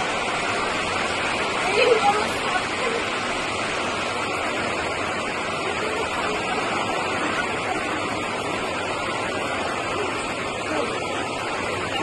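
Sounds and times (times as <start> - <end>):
fast-flowing water rushing: 0.0 - 12.0.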